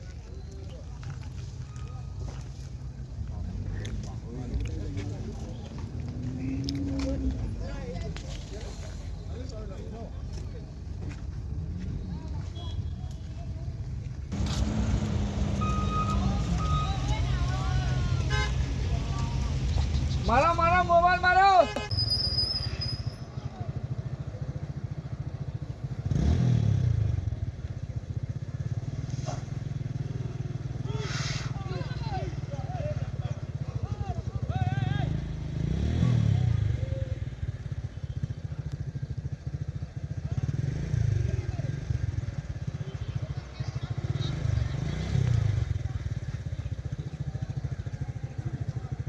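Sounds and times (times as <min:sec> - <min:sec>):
vehicle engine idling and revving: 0:00.0 - 0:49.0.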